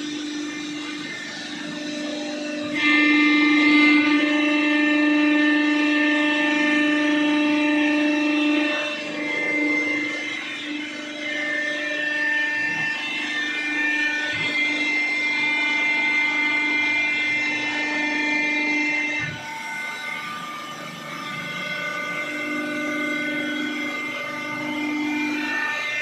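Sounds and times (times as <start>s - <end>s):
hydraulic pump whining: 0.0s - 26.0s.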